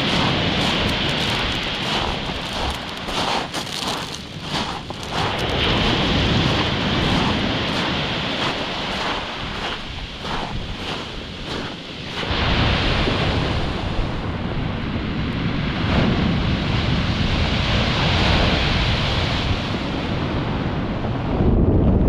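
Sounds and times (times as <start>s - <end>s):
surf breaking on shingle beach: 0.0s - 20.5s
wind buffeting microphone: 0.0s - 22.0s.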